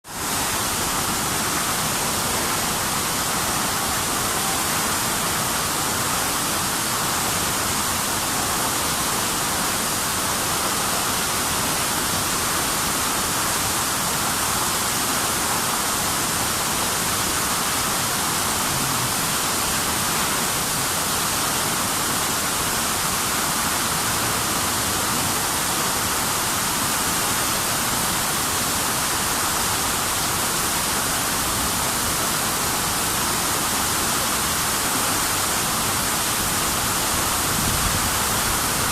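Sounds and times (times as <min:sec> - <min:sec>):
waterfall rushing: 0:00.1 - 0:38.9.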